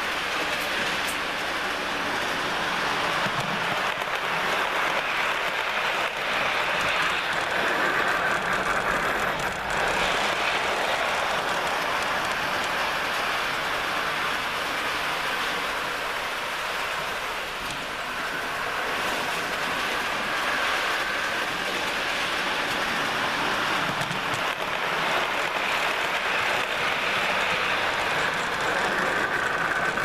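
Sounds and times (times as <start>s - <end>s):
model train motor whirring: 0.1s - 30.0s.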